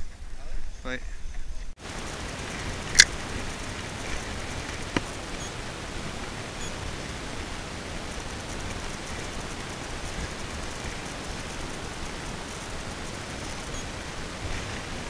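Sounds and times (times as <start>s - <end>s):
wind: 0.0s - 15.0s
river water rushing: 1.8s - 15.0s.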